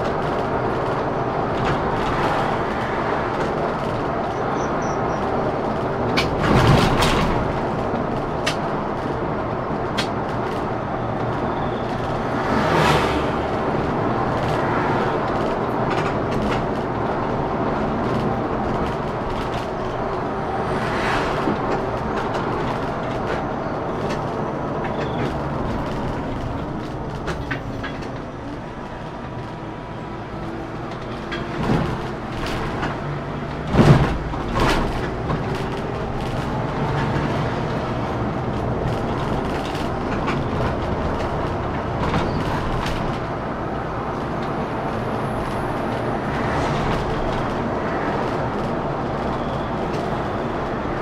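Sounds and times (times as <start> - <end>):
coach engine and road noise: 0.0 - 51.0.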